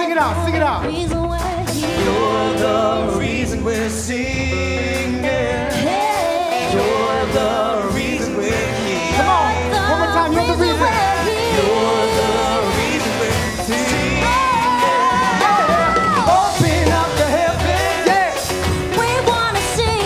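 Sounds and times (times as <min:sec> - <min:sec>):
live band playing funk: 0:00.0 - 0:20.0
steady bass: 0:00.0 - 0:20.0
person singing: 0:00.8 - 0:20.0.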